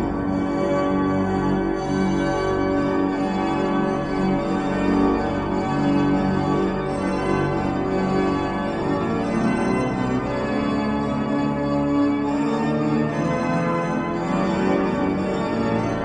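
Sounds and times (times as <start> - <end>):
pipe organ chords: 0.0 - 16.0.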